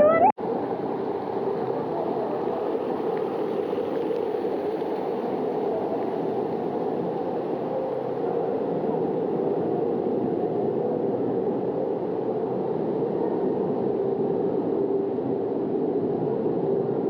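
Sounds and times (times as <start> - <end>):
muffled underwater water rushing: 0.0 - 17.0.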